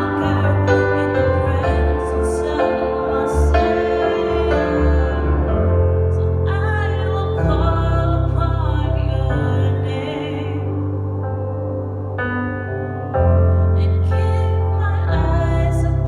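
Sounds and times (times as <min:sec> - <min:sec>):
woman singing a worship song: 0:00.0 - 0:11.2, 0:13.6 - 0:16.0.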